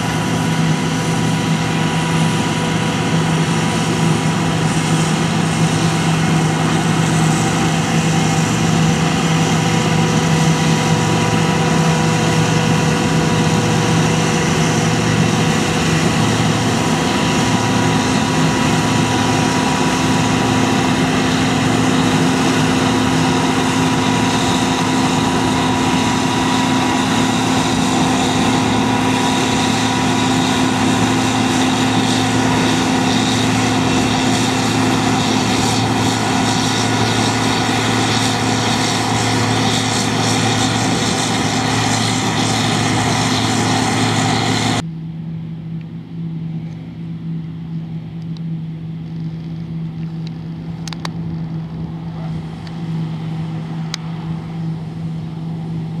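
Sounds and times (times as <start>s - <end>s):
diesel machinery engine hum: 0.0s - 56.0s.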